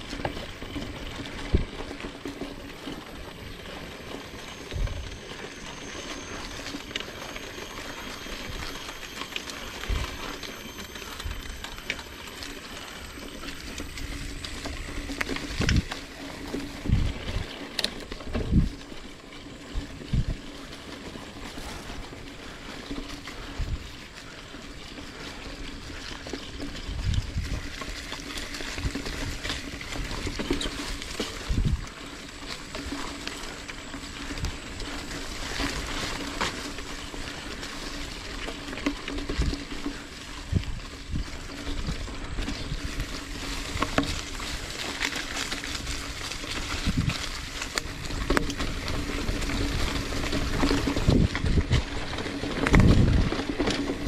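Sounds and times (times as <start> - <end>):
bike tyre and drivetrain noise: 0.0 - 54.0
leaves and grass brushing: 0.0 - 54.0.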